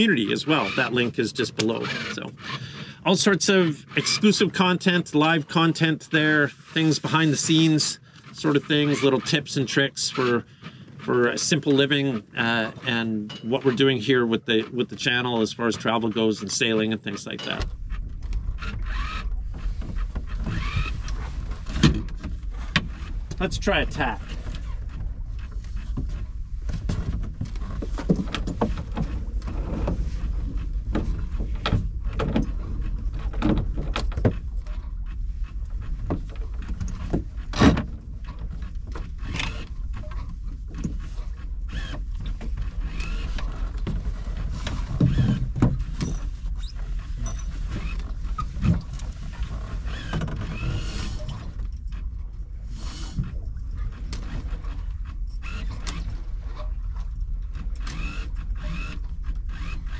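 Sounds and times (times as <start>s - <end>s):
lines and gear creaking and knocking: 0.0s - 59.9s.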